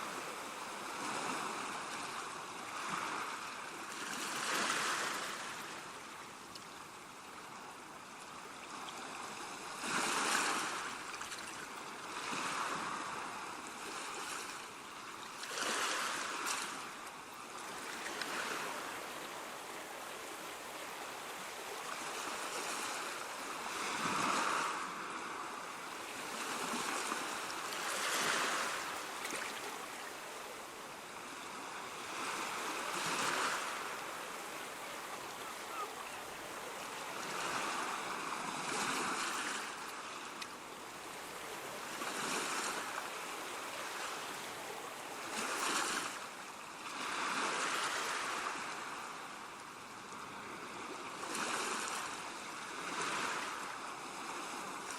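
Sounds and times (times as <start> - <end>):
ocean waves breaking on shore: 0.0 - 54.9.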